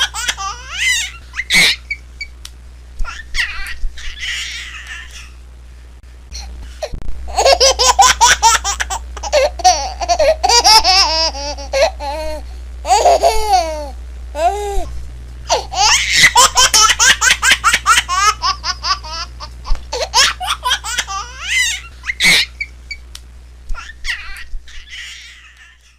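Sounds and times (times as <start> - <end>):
baby giggling and squealing: 0.0 - 2.0, 3.0 - 5.4, 7.3 - 14.9, 15.5 - 22.7, 23.8 - 25.9.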